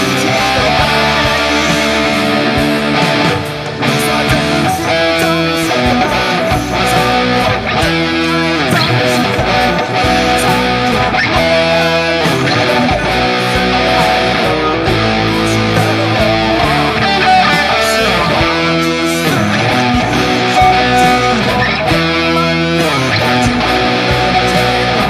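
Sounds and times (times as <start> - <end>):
electric guitar music: 0.0 - 25.0.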